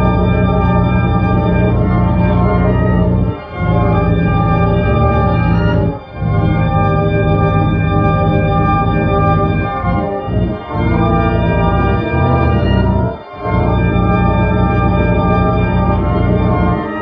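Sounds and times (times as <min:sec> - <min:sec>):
organ-like drone: 0:00.0 - 0:17.0.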